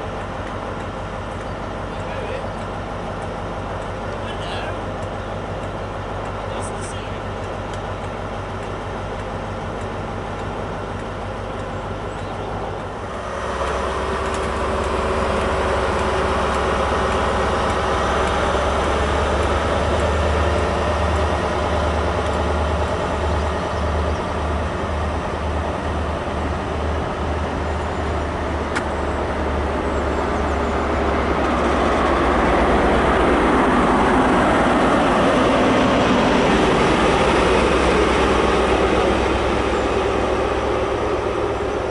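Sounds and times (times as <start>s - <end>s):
diesel engine drone: 0.0s - 41.9s
train wheels rumbling on rails: 0.0s - 41.9s.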